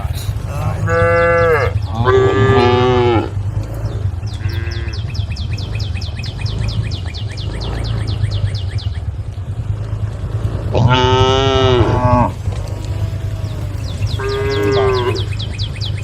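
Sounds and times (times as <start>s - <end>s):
cows mooing: 0.0s - 16.0s
steady low hum: 0.0s - 16.0s.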